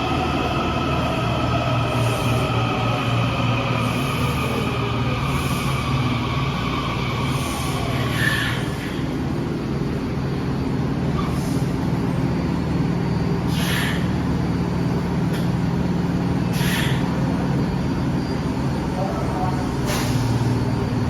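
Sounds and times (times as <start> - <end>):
train humming: 0.0 - 21.0.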